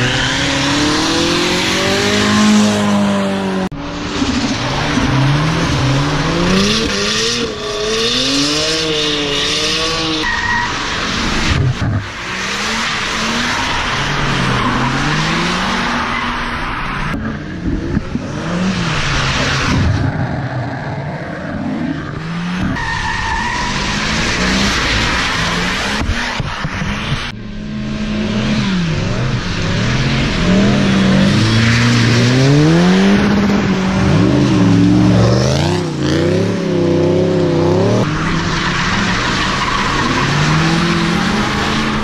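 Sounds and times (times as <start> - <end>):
car engines revving: 0.0 - 42.0
tyres skidding on wet asphalt: 4.0 - 27.3, 28.6 - 36.5, 37.8 - 42.0.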